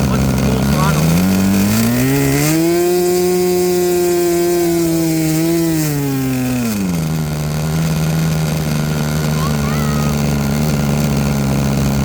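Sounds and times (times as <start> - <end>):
model airplane engine running: 0.0 - 12.0.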